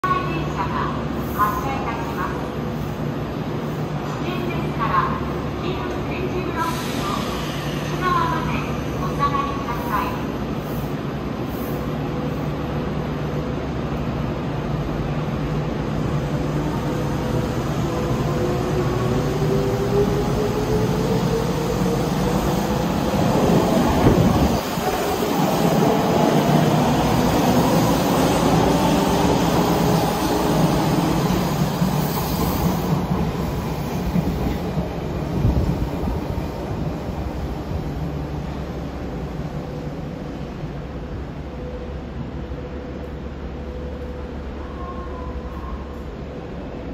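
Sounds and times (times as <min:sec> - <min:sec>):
train wheel and rail noise: 0:00.0 - 0:46.9.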